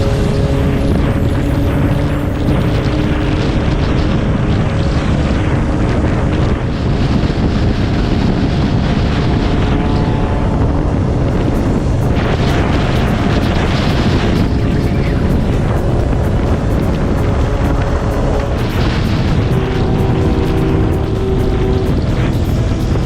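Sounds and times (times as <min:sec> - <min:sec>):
motorcycle engine running: 0:00.0 - 0:23.0
wind noise on microphone: 0:00.0 - 0:23.0.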